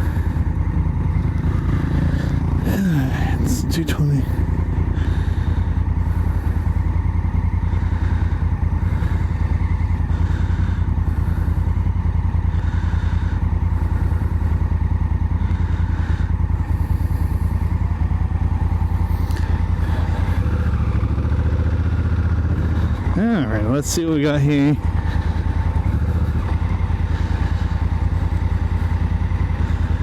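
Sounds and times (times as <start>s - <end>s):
motorcycle engine running steadily: 0.0s - 30.0s.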